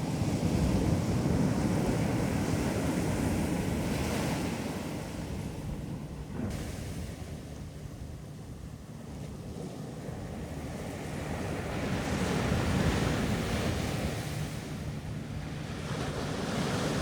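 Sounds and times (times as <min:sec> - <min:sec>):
ocean surf on a beach: 0:00.0 - 0:17.0
wind rumble on microphone: 0:00.0 - 0:17.0.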